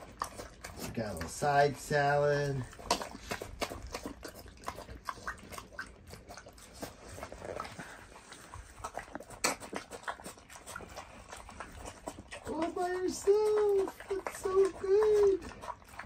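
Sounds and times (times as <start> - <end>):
pig chewing and smacking: 0.0 - 16.0.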